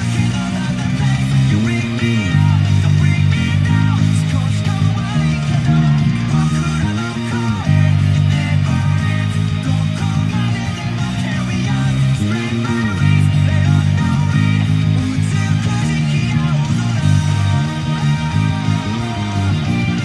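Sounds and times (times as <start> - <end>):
electric bass guitar: 0.0 - 20.0
rock band track: 0.0 - 20.0.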